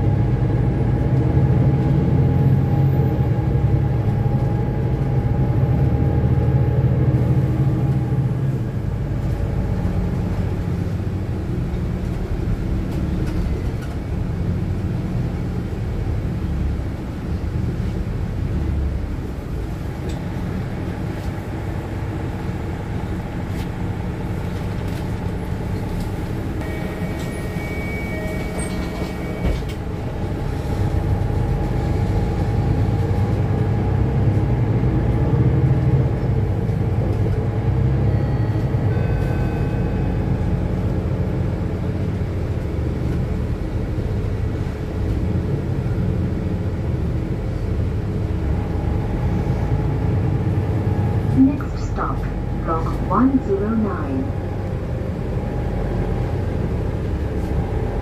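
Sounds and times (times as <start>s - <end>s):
bus diesel engine running: 0.0s - 58.0s
road rumble: 0.0s - 58.0s.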